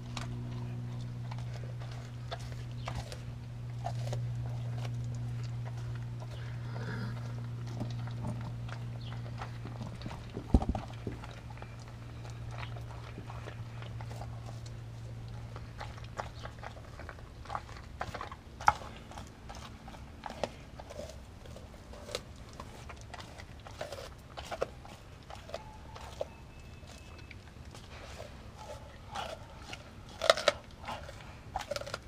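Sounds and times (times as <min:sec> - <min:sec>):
dog chewing meat and bone: 0:00.0 - 0:32.0.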